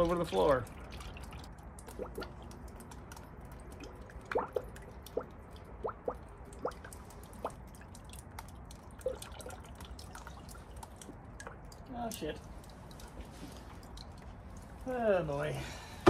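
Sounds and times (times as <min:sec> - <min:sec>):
liquid glugging into funnel: 0:00.4 - 0:14.6.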